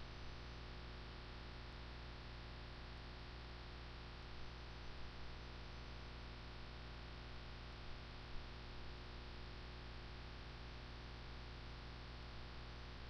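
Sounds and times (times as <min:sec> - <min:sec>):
faint electrical hum and hiss: 0:00.0 - 0:13.0.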